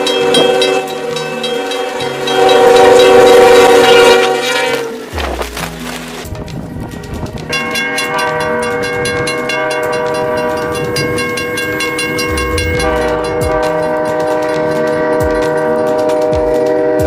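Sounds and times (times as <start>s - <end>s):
train horn chord: 0.0s - 5.4s, 7.6s - 17.0s
rail wheels clattering: 0.0s - 17.0s.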